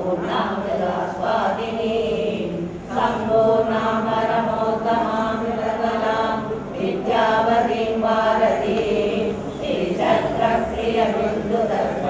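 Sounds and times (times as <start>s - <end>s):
women chanting a hymn: 0.0s - 12.0s.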